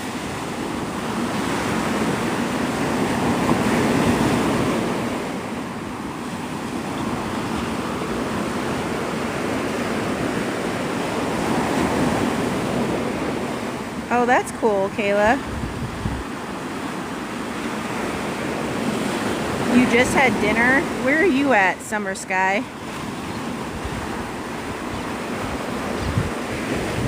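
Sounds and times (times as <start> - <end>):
surf breaking on sandy beach: 0.0 - 27.0.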